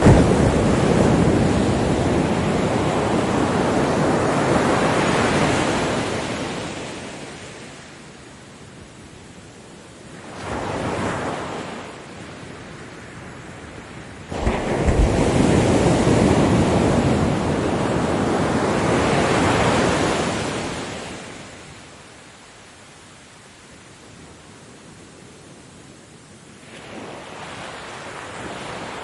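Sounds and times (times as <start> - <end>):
ocean waves breaking on beach: 0.0 - 29.0.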